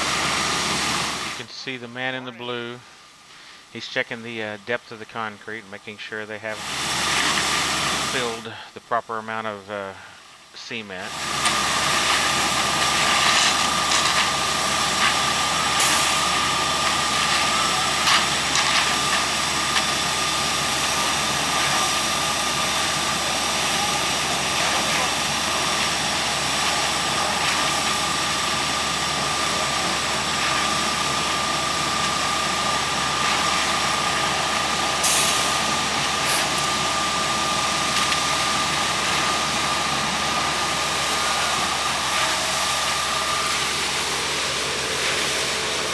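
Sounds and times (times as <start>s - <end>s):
heavy diesel engine running: 0.0s - 2.6s, 11.0s - 45.9s
constant machine whine: 0.0s - 45.9s.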